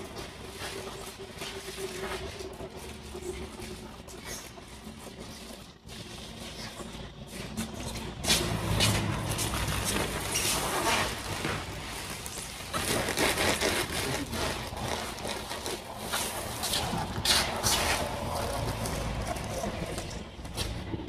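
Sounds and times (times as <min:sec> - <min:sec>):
low steady hum: 0:00.0 - 0:21.0
scraping and rustling sheet material: 0:00.2 - 0:20.0.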